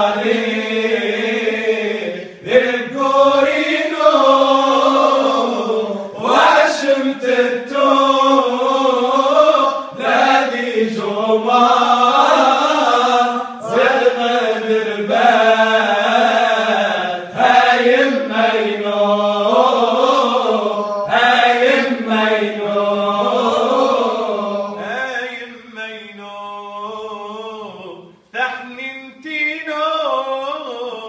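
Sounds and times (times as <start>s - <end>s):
male group singing a cappella: 0.0s - 31.0s.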